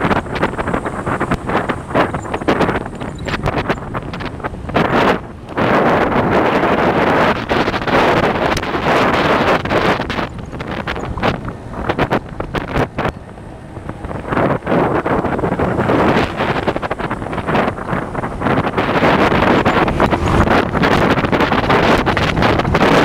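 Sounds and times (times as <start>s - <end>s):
vehicle running noise: 0.0s - 23.0s
wind buffeting microphone: 0.0s - 23.0s.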